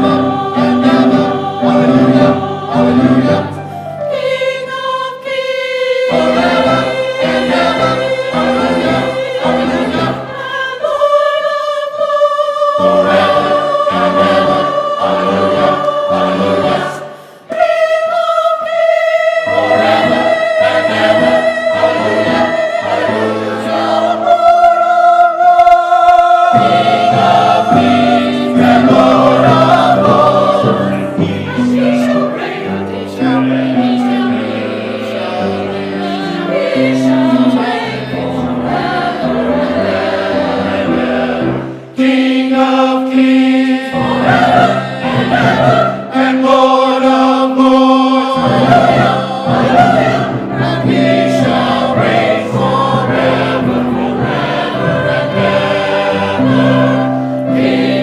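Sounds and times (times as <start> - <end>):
choir singing held notes: 0.0 - 58.0.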